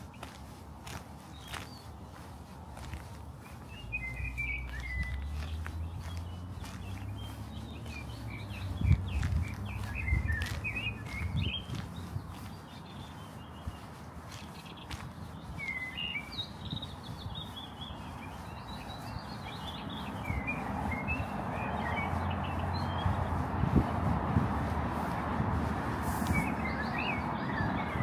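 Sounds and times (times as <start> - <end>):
songbirds chirping: 0.0 - 28.0
broad rushing noise: 3.3 - 28.0.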